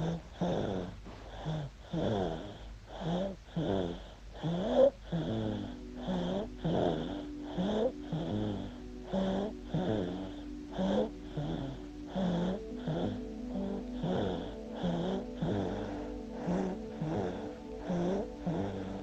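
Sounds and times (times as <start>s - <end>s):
baby snoring and wheezing: 0.0s - 19.0s.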